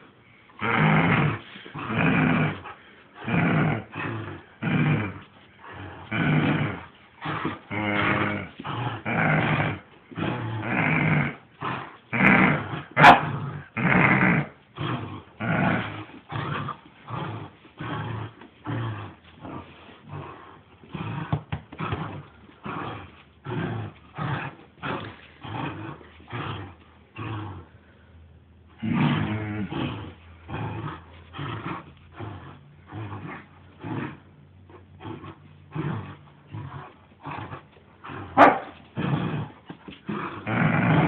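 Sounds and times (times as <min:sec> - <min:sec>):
dog play-growling: 0:00.4 - 0:28.0, 0:28.6 - 0:41.0.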